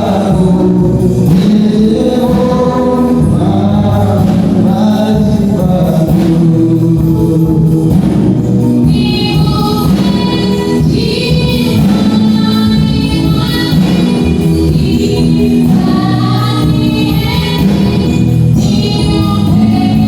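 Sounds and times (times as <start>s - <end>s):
gospel choir singing with instruments: 0.0s - 20.0s.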